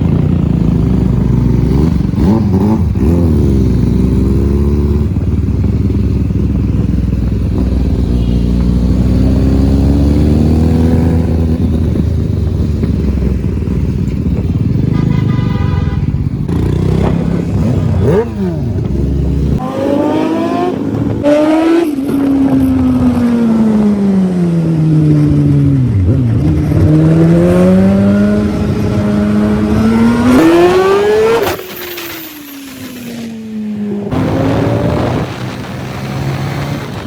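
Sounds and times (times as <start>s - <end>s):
motorcycle engine running hard: 0.0s - 30.7s.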